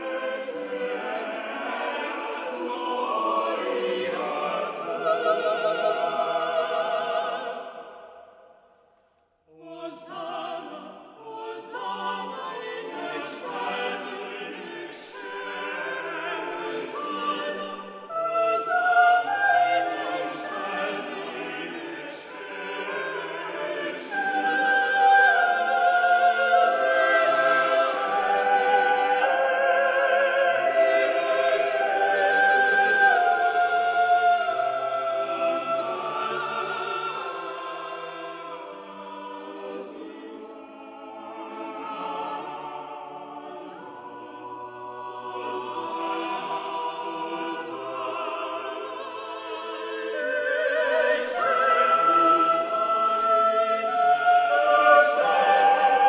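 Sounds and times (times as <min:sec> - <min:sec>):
mixed choir singing: 0:00.0 - 0:08.6, 0:09.5 - 0:56.0.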